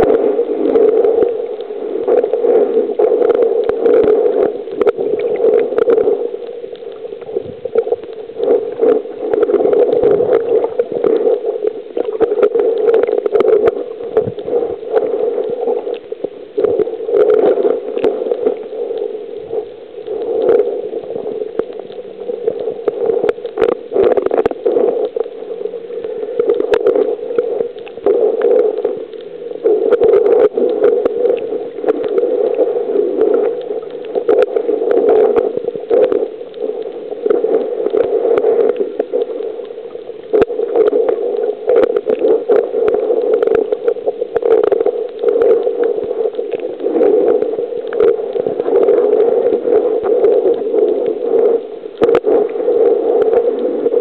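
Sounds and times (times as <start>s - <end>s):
muffled underwater water wash: 0.0s - 54.0s.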